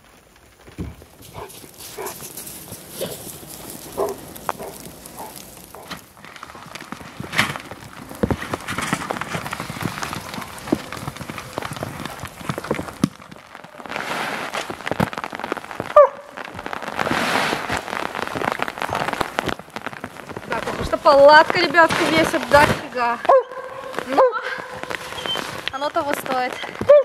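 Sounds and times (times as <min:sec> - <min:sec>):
plastic groundsheet rustling: 0:00.0 - 0:27.0
rain pattering: 0:00.0 - 0:27.0.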